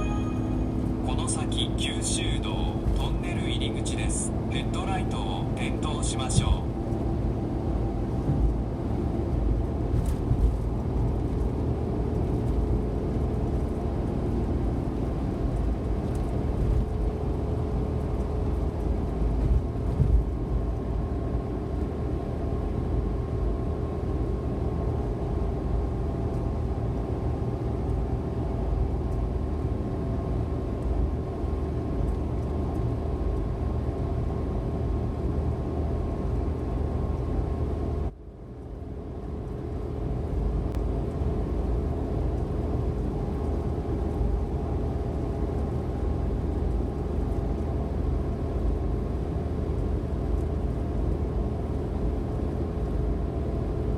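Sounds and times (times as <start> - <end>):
van engine and road rumble: 0.0 - 53.9.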